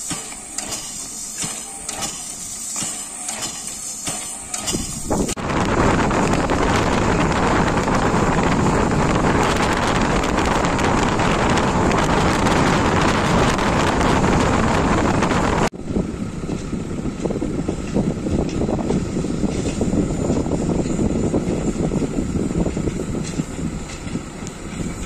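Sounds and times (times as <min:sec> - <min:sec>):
outdoor ambience: 0:00.0 - 0:25.0
passenger train running: 0:00.0 - 0:25.0
wind rushing over microphone: 0:04.7 - 0:25.0.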